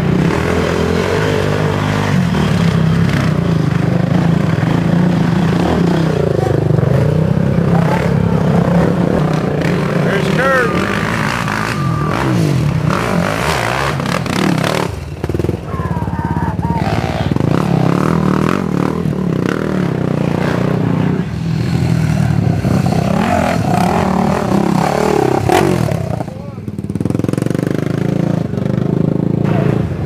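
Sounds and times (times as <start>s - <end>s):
quad engines revving: 0.0s - 30.0s.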